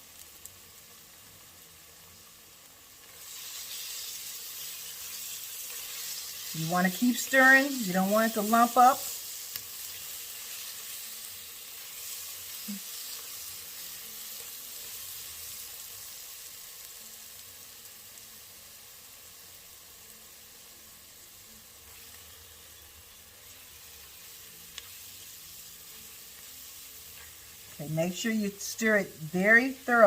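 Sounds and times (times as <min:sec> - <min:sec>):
roux sizzling in a pot: 0:00.0 - 0:30.0.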